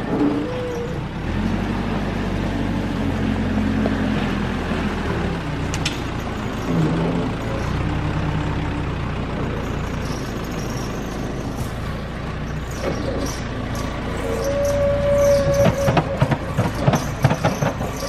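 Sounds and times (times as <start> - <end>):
diesel engine running under work: 0.0 - 18.0.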